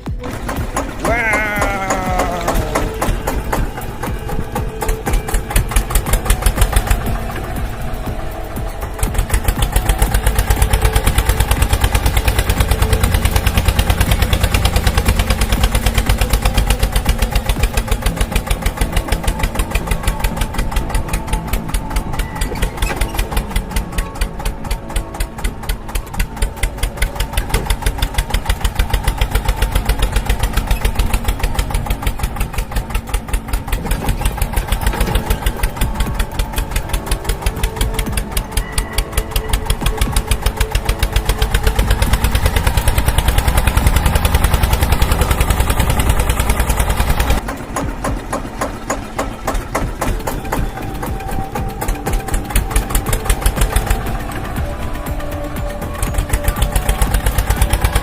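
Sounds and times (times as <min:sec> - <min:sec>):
small engine chugging: 0:00.0 - 0:58.0.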